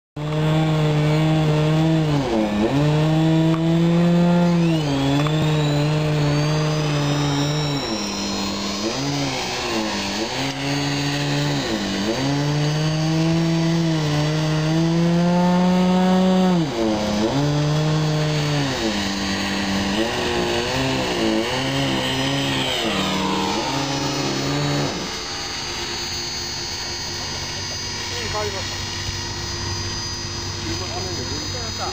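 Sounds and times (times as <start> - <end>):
faint high gliding whines: 0.2 - 31.9
model helicopter buzzing: 0.2 - 31.9.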